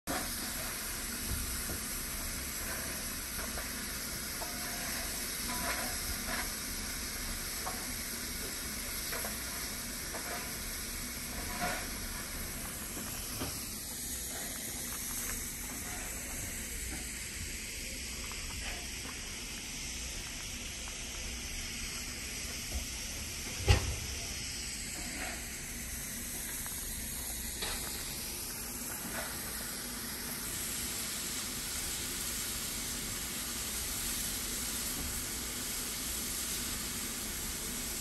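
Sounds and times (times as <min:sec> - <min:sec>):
steam hissing: 0:00.0 - 0:38.0.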